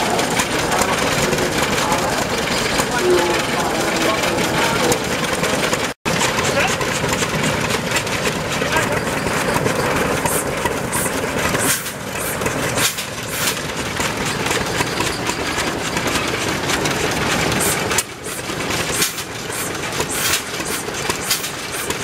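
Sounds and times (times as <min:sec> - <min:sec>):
sharp exhaust reports: 0:00.0 - 0:22.0
stationary engines running: 0:00.0 - 0:22.0.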